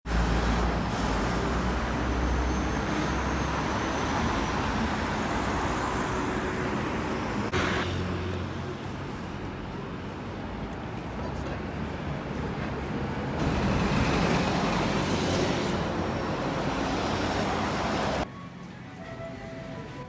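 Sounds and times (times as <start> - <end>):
road traffic: 0.0 - 20.0
vehicle engine rumble: 0.1 - 18.3.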